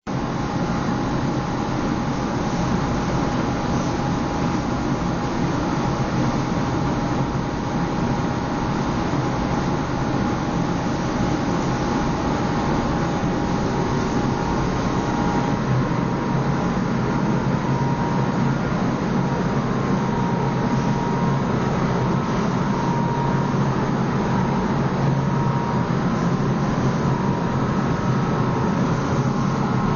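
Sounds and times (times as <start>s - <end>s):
freezer compressor hum: 0.1s - 29.9s.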